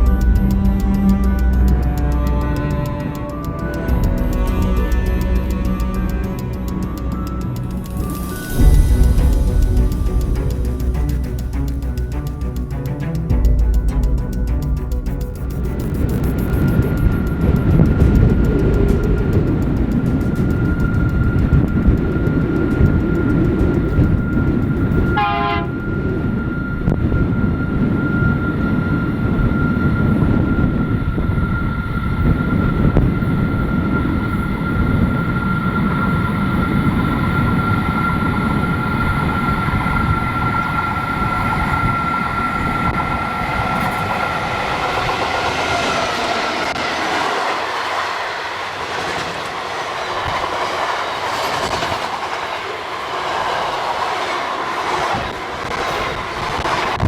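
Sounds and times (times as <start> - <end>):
diesel train rumble: 0.0 - 57.0
steady high whine: 0.0 - 57.0.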